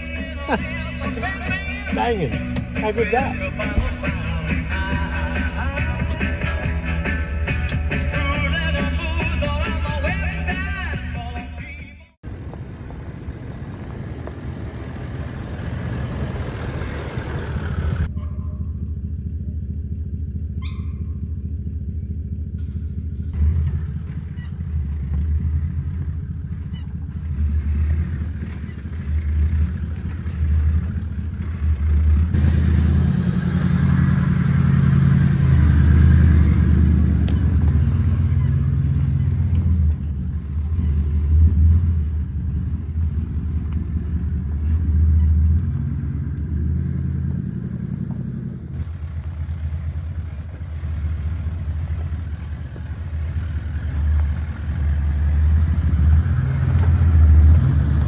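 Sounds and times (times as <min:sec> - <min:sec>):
engine and exhaust rumble: 0:00.0 - 0:58.0.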